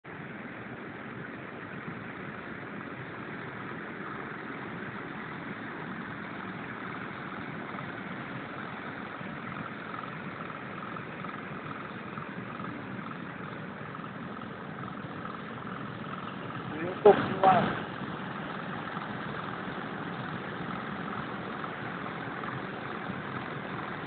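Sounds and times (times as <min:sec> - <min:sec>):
engine-driven water pumps running: 0:00.0 - 0:24.0.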